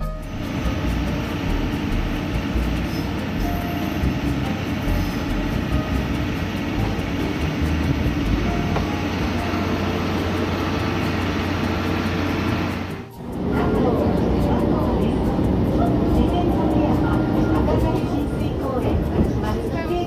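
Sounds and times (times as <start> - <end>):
diesel railcar engine hum: 0.0 - 20.0
train wheels rumbling on rails: 0.0 - 20.0.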